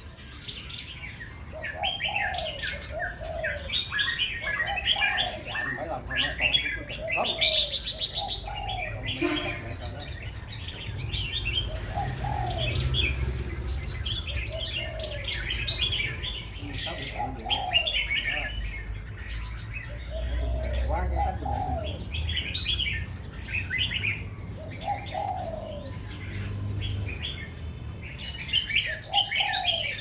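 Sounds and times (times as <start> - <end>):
caged songbirds chirping: 0.0 - 30.0.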